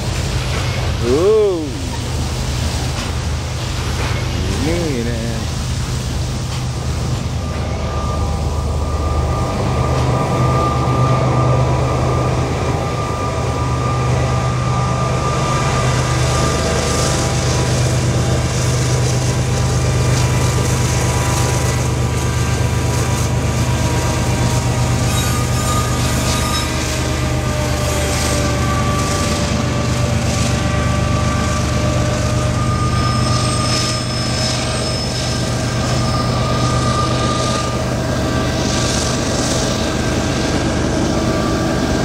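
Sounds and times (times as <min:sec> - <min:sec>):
diesel locomotive engine drone: 0:00.0 - 0:42.0
train wheels rolling: 0:00.0 - 0:42.0.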